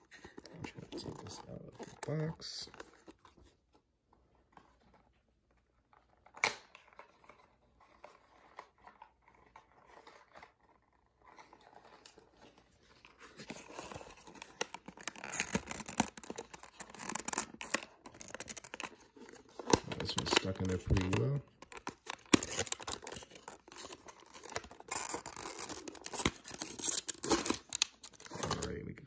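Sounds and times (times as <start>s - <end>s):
packaging crinkling and rustling: 0.0s - 3.6s, 4.5s - 28.9s.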